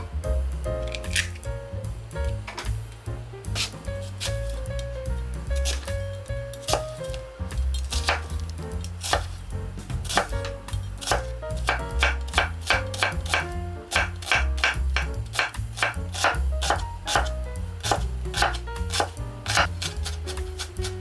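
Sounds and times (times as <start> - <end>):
background music with bass line: 0.0 - 21.0
knife chopping on cutting board: 3.5 - 21.0.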